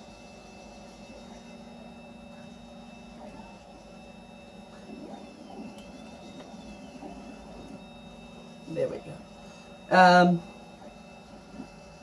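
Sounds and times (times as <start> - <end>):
electrical hum with whine: 0.0 - 12.0.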